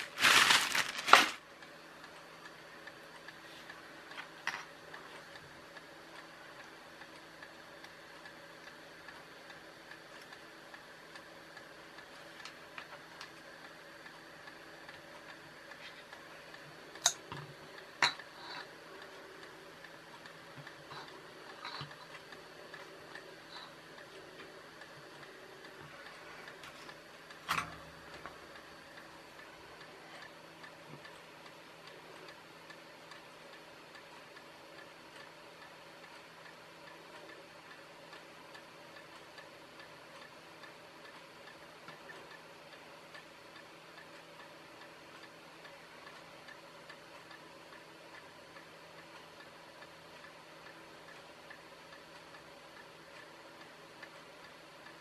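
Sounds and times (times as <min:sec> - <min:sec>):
faint regular ticking: 0:01.5 - 0:55.0.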